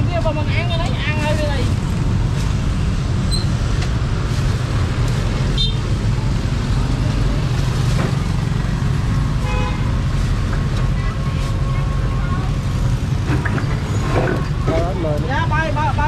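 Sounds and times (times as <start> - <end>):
rumble of passing vehicles: 0.0 - 16.0.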